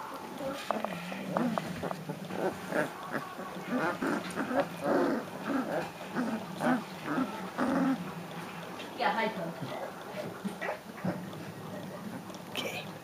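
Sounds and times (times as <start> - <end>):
puppies whining and grunting: 0.5 - 8.8, 9.6 - 12.5.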